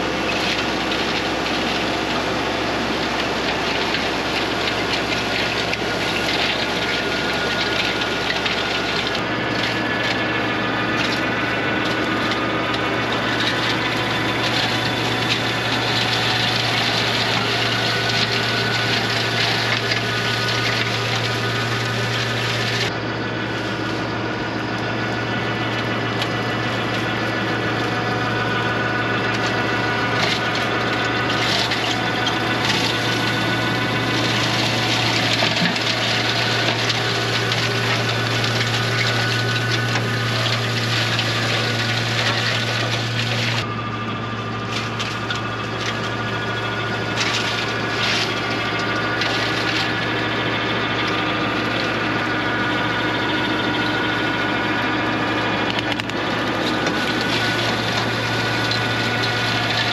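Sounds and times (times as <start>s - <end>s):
flail mower shredding grass: 0.0s - 59.9s
tractor diesel engine drone: 0.0s - 59.9s.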